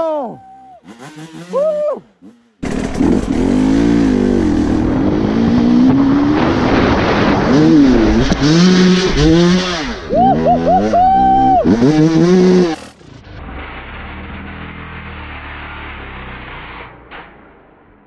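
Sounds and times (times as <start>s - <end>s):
motorcycle engine revving: 0.8s - 16.8s.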